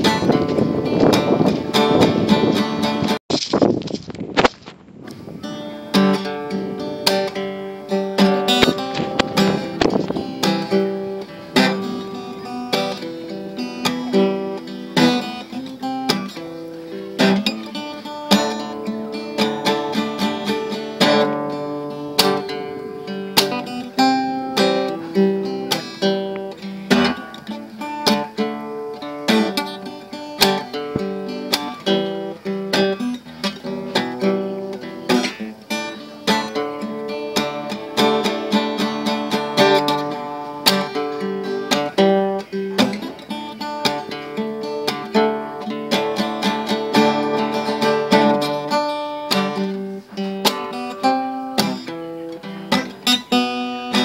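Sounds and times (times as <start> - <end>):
acoustic guitar strumming chords: 0.0 - 3.2, 5.1 - 54.0.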